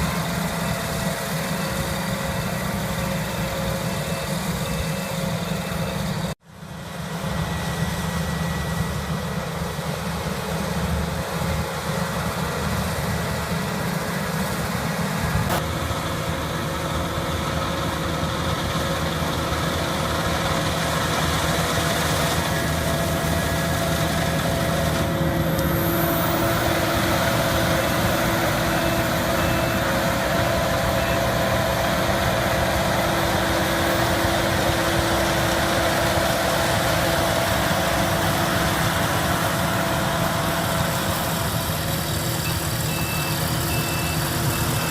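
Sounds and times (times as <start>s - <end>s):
farm machinery engines running: 0.0s - 44.9s.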